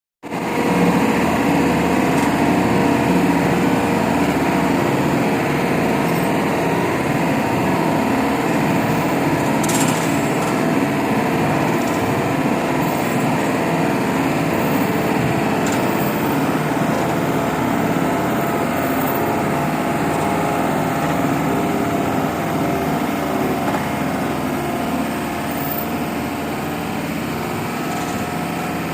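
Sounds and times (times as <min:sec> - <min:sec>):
engine running: 0:00.3 - 0:28.9.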